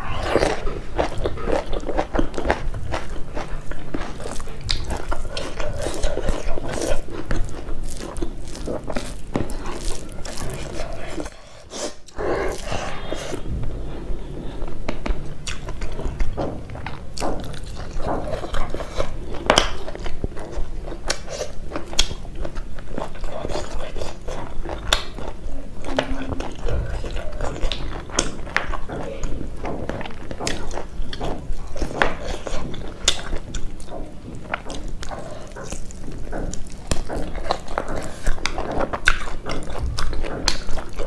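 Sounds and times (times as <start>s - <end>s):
chewing food: 0.0s - 41.0s.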